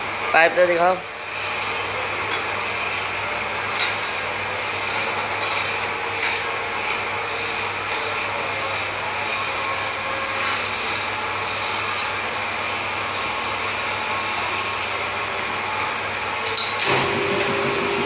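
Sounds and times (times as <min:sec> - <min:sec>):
pipe bending machine humming: 0:00.0 - 0:18.0.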